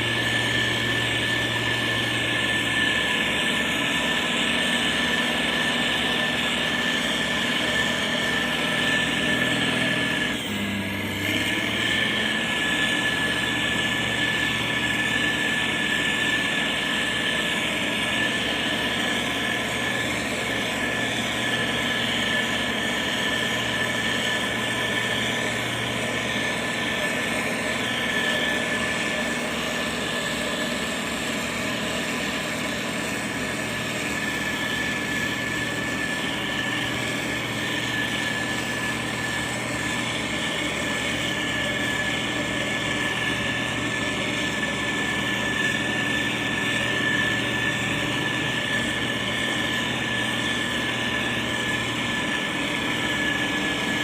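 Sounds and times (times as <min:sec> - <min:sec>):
diesel engine running: 0:00.0 - 0:54.0
high-pitched whine: 0:00.0 - 0:54.0.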